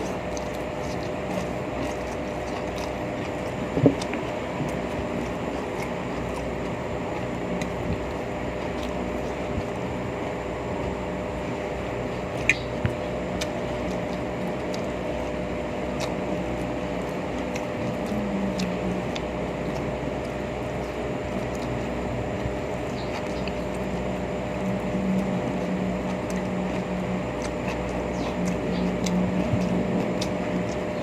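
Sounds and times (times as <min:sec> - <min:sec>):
low hum and rumble: 0:00.0 - 0:31.0.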